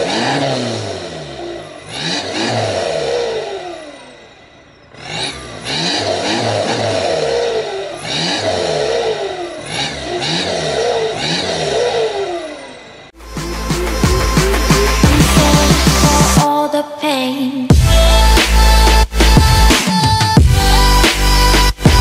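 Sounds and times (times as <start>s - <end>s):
diesel engine revving: 0.0s - 16.4s, 17.7s - 22.0s.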